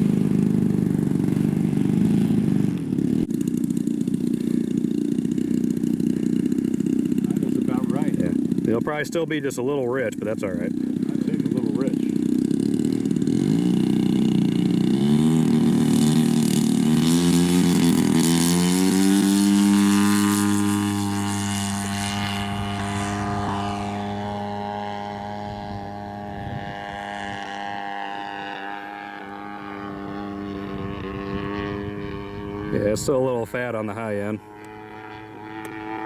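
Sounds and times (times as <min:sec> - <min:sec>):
model airplane gas engine: 0:00.0 - 0:36.0.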